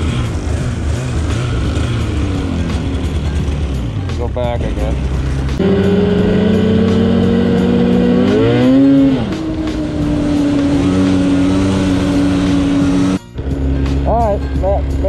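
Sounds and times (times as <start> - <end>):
snowmobile engine revving: 0.0 - 3.9, 4.6 - 15.0.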